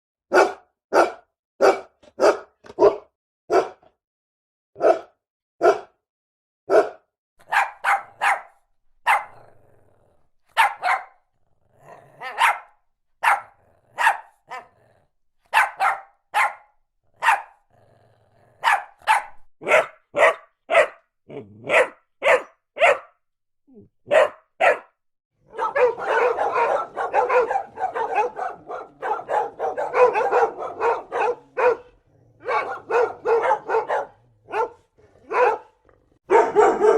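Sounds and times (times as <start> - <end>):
dog barking: 0.3 - 4.0, 4.8 - 6.0, 6.7 - 9.6, 10.5 - 11.3, 11.9 - 14.8, 15.4 - 17.7, 18.6 - 23.2, 24.0 - 36.9.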